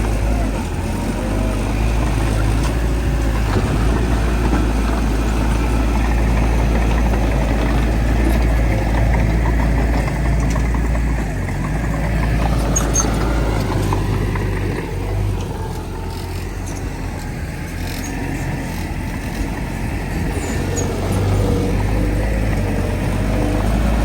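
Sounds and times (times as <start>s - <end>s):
heavy diesel engine drone: 0.0s - 24.0s.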